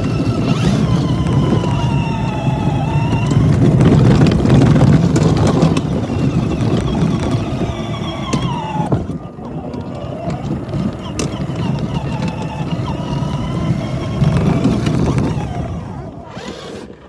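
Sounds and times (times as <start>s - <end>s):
plastic wheels rumbling on ground: 0.0s - 17.0s
toy car electric motor whine: 0.0s - 17.0s.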